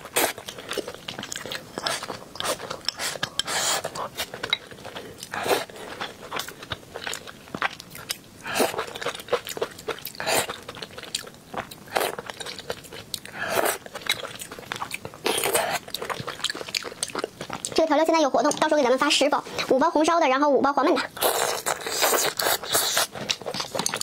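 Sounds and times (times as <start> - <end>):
mouth chewing with wet smacks: 0.0 - 18.7, 21.1 - 24.0.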